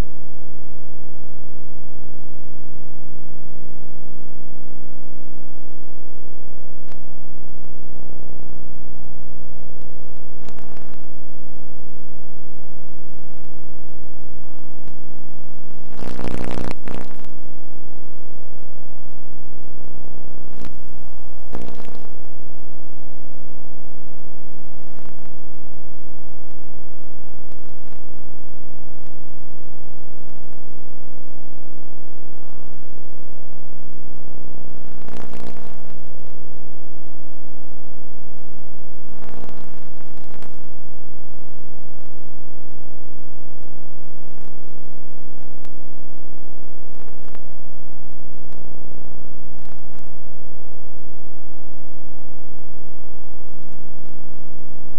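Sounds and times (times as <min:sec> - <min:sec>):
steady electrical hum: 0:00.0 - 0:54.9.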